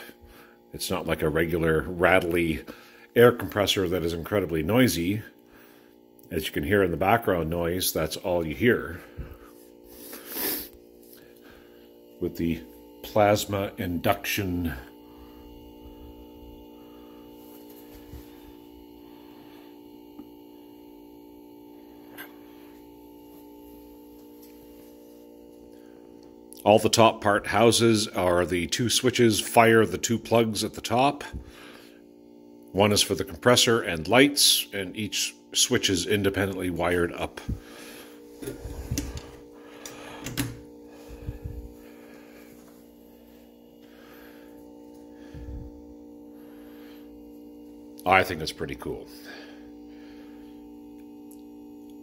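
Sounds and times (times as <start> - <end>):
compressor humming: 0.0 - 52.0.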